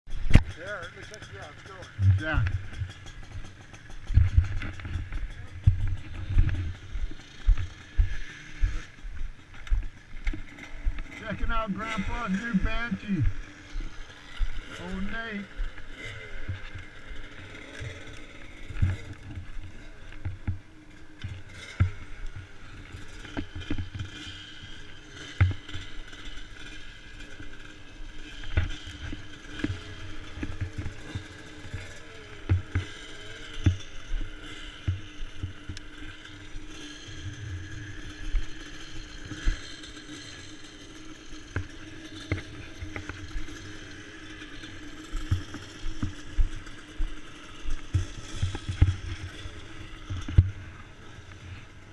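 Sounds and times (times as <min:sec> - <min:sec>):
dirt bike knocking and rattling: 0:00.1 - 0:51.9.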